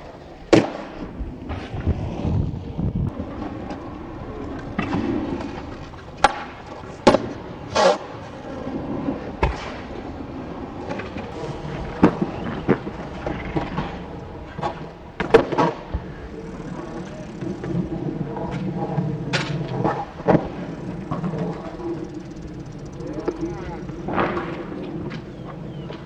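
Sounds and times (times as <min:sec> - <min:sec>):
skateboard wheels rolling on concrete: 0:00.0 - 0:26.0
skateboard clacking on ground: 0:03.1 - 0:09.9, 0:10.8 - 0:26.0.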